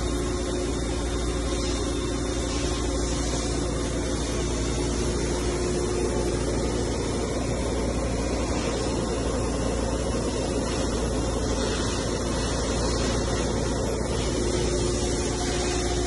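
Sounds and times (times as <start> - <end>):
machine mechanical hum and hiss: 0.0 - 16.0.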